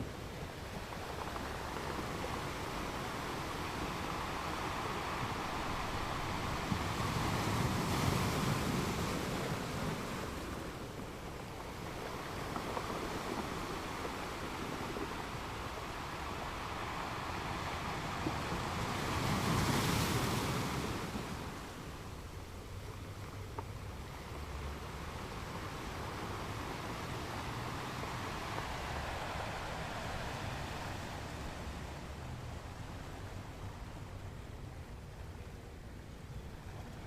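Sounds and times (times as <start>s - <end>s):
ocean waves breaking: 0.0s - 37.0s.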